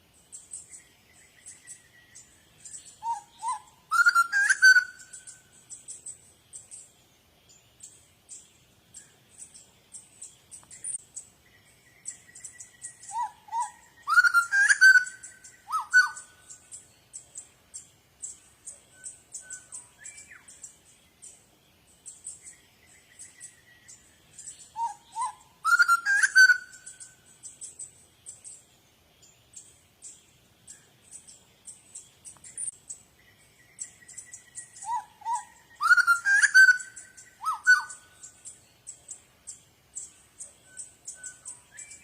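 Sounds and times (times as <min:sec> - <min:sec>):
birdsong with rising whistles: 0:00.0 - 0:42.0
high bird chirps: 0:00.3 - 0:06.9, 0:07.8 - 0:21.4, 0:22.0 - 0:28.6, 0:29.5 - 0:42.0.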